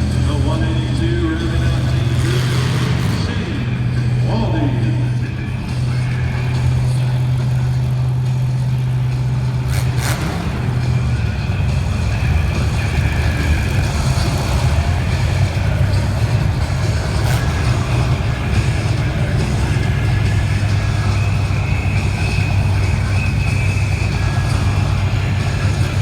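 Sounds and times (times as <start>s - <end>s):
car engines running loud: 0.0s - 26.0s.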